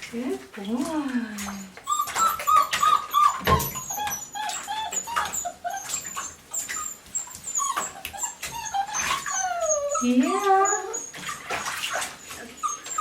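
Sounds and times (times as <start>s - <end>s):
water splashes: 0.0s - 13.0s
puppy whining: 1.4s - 13.0s.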